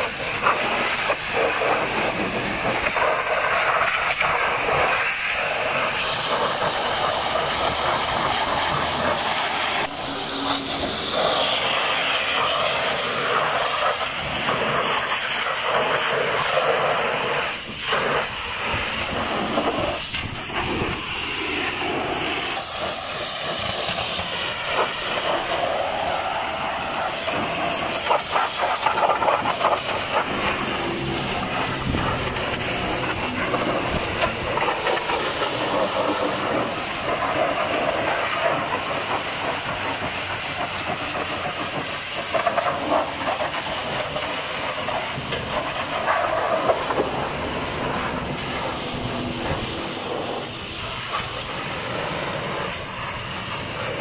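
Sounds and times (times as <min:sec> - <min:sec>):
pressure washer jet hissing: 0:00.0 - 0:54.0.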